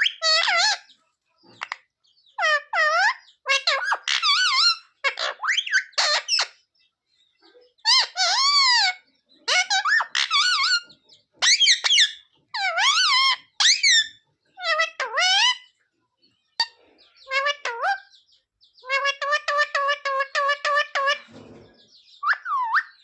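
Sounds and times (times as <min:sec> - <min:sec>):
parrot calls and chatter: 0:00.0 - 0:23.0.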